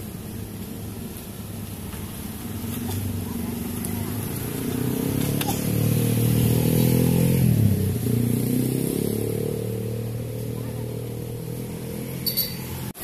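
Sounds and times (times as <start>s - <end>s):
motorcycles and cars passing: 0.0s - 13.0s.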